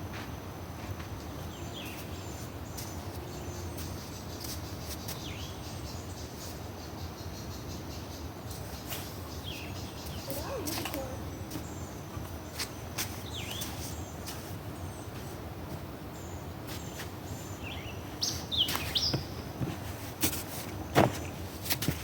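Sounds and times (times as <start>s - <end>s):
birds chirping: 1.2s - 15.4s, 16.0s - 19.9s.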